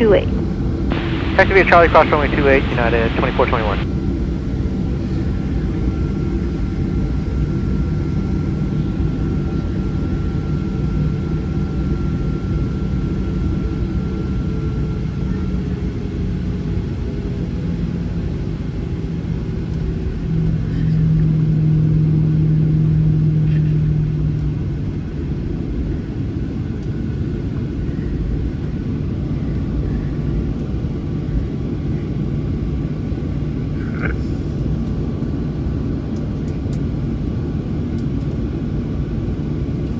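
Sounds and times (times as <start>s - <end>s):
jet engines rumbling in cabin: 0.0s - 16.2s, 17.1s - 39.9s.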